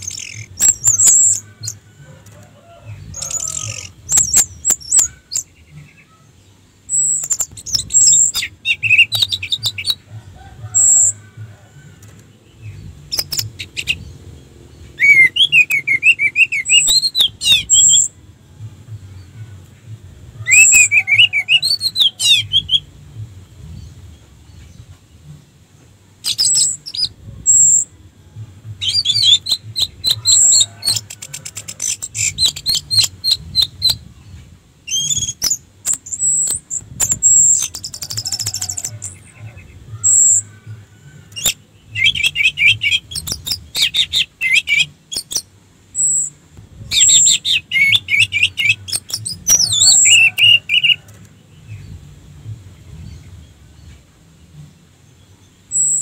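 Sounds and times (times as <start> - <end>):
thrush singing: 0.0 - 55.0.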